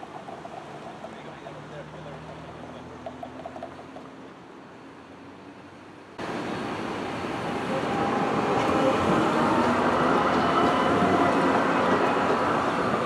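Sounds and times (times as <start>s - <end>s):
tram passing close by: 0.0s - 4.4s, 6.2s - 13.0s
quiet city street background: 0.0s - 13.0s.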